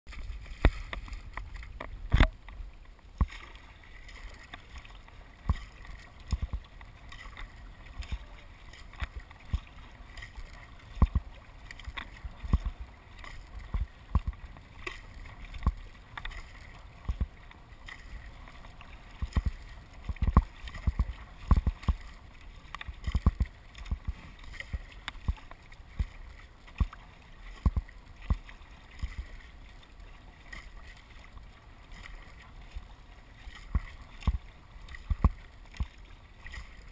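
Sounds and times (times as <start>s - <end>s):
paddle splashing water: 0.1s - 36.9s
water washing: 3.2s - 36.9s.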